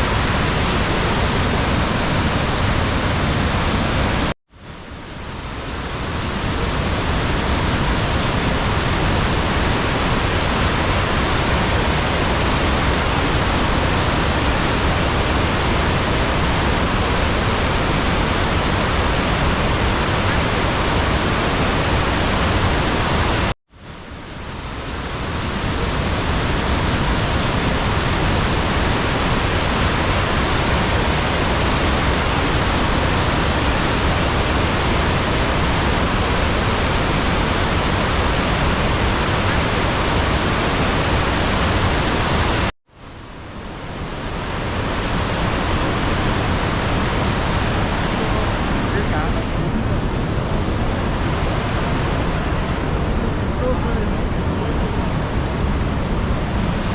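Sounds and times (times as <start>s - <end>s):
waterfall roaring: 0.0s - 4.4s, 5.3s - 23.5s, 24.3s - 42.7s, 43.6s - 56.9s.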